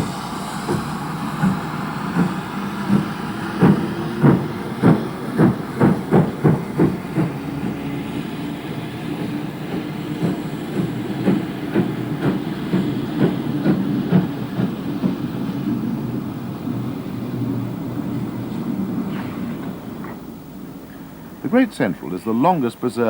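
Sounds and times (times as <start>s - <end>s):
train wheels clattering: 0.0s - 22.0s
steam locomotive exhaust beats: 0.0s - 23.0s.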